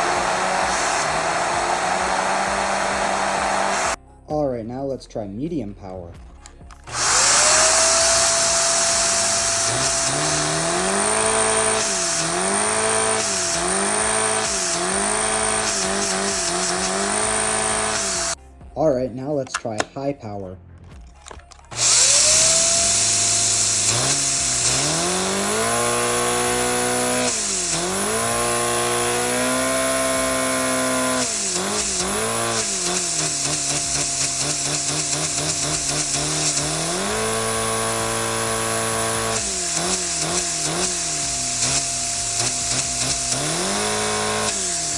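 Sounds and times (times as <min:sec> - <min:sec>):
vacuum engine hiss and whine: 0:00.0 - 0:04.0, 0:06.9 - 0:18.4, 0:21.7 - 0:44.9.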